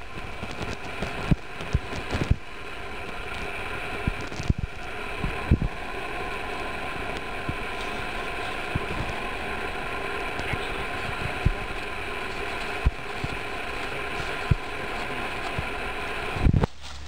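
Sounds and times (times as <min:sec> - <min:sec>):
faint steady tones: 0:00.0 - 0:17.0
steady droning noise: 0:00.0 - 0:17.0.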